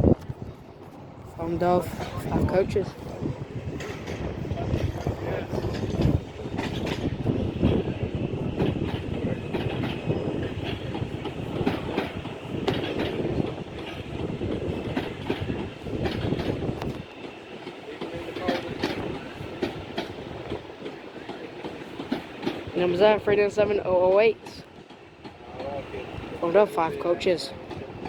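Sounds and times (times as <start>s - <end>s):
train rumble: 0.0s - 28.0s
train wheels clicking over rail joints: 0.3s - 28.0s.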